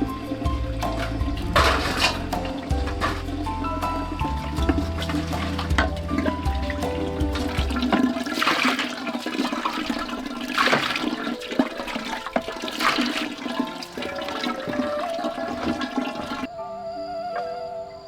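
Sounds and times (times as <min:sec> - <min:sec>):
water pouring and splashing: 0:00.0 - 0:16.5.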